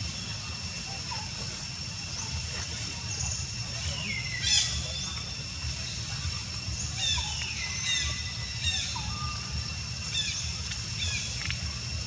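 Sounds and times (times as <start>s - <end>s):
birds chirping: 0.0s - 11.7s
high-pitched insect drone: 0.0s - 12.0s.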